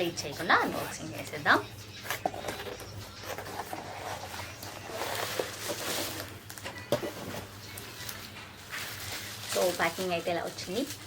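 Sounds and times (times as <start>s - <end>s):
cardboard packaging rustling: 1.9s - 11.0s.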